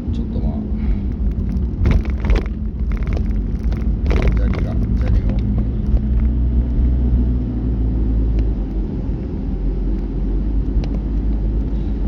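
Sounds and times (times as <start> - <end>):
car engine: 0.0 - 12.0
car tyre and road noise: 0.0 - 12.0.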